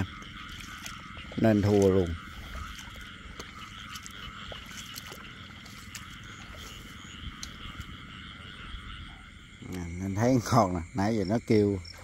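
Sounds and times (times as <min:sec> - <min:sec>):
frogs chorus: 0:00.0 - 0:12.0.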